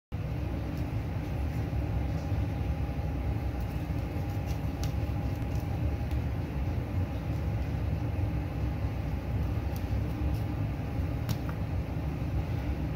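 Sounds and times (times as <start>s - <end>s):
low mechanical rumble: 0.1s - 12.9s.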